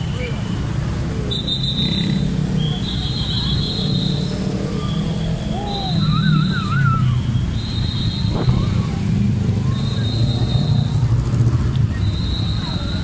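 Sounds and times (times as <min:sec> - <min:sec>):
scooter engines droning: 0:00.0 - 0:13.0.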